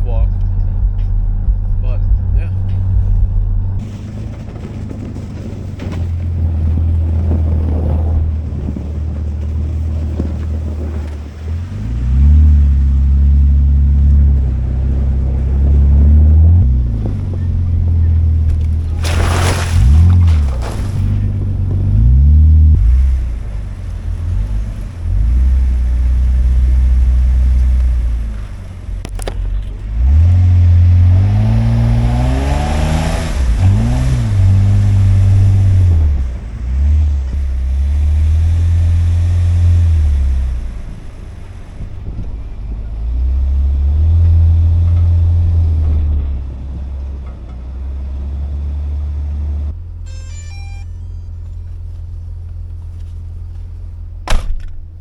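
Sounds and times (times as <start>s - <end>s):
truck engine revving: 0.0s - 51.6s.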